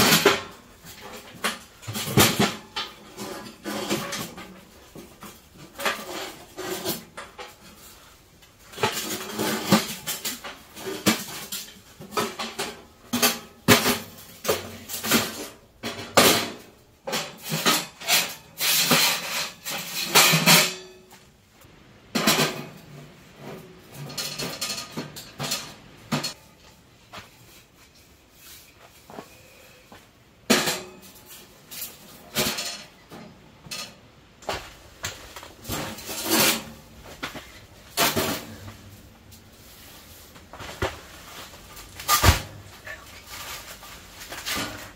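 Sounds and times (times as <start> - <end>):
metal clanking and scraping: 0.0 - 21.3, 22.1 - 44.9.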